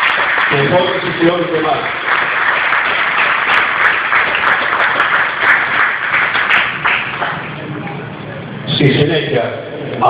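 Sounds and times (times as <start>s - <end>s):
crowd applauding: 0.0s - 8.1s.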